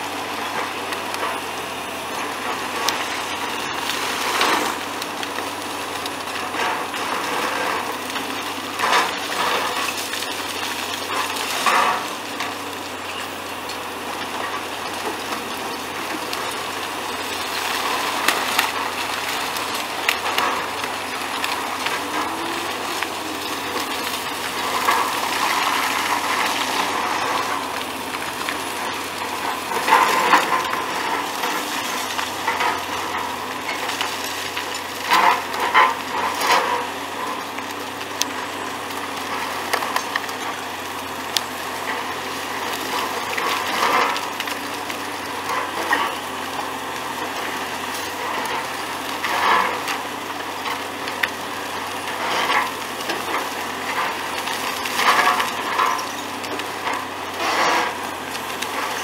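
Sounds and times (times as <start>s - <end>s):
excavators running: 0.0s - 59.0s
concrete rubble crunching and falling: 0.2s - 59.0s.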